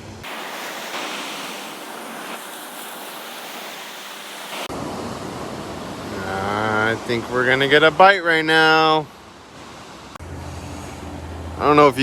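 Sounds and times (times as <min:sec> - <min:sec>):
ocean surf breaking on beach: 0:00.2 - 0:10.2.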